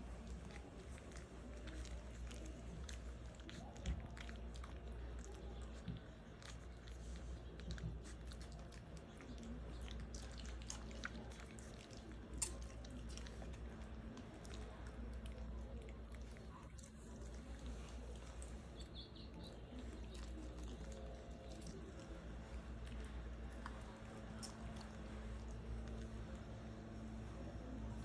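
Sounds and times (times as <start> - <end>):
puppies chewing and smacking: 0.0 - 28.0
steady low hum: 0.0 - 28.0.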